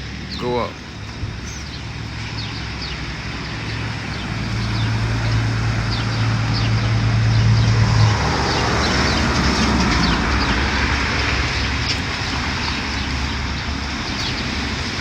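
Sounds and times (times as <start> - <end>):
demolition rumble: 0.0 - 15.0
excavator diesel engine humming: 0.0 - 15.0.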